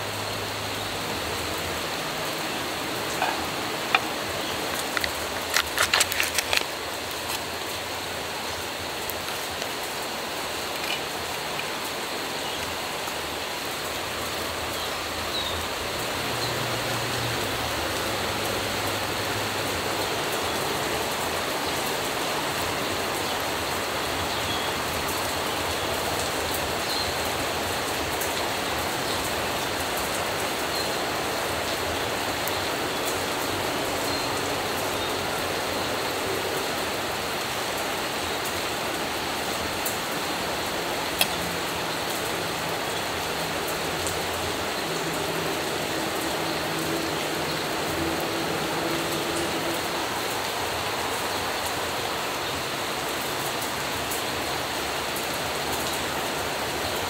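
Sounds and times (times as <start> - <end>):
outdoor background hiss: 0.0 - 57.0.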